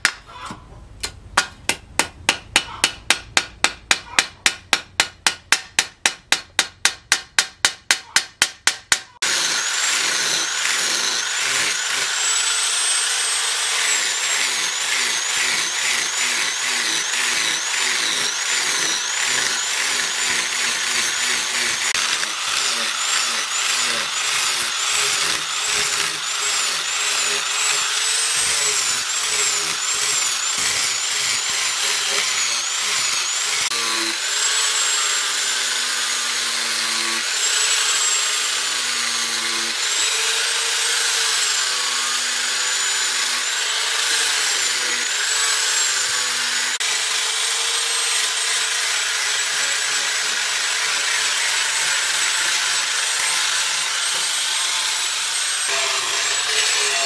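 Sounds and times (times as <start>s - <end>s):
angle grinder sanding wood: 6.3s - 57.0s.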